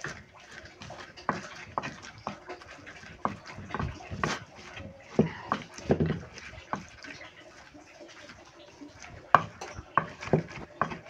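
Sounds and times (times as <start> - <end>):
pestle knocking in mortar: 0.0 - 7.3, 8.9 - 11.0
pestle squishing and scraping: 0.0 - 11.0.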